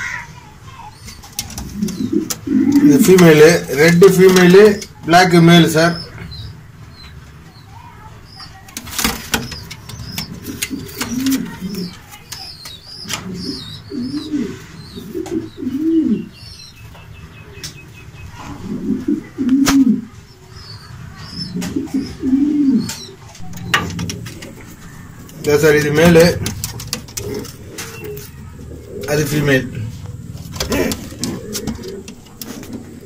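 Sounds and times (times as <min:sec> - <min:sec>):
pigeons cooing: 0:00.9 - 0:06.6, 0:08.8 - 0:33.0.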